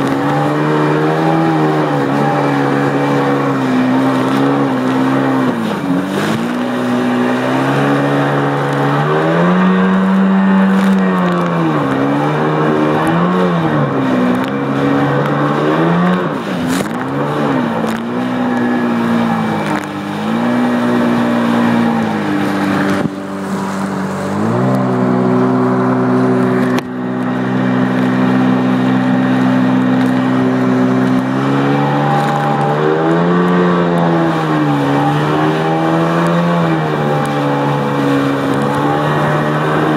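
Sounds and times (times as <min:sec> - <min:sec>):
hiss of water and wind: 0:00.0 - 0:39.9
personal watercraft engine running: 0:00.0 - 0:39.9.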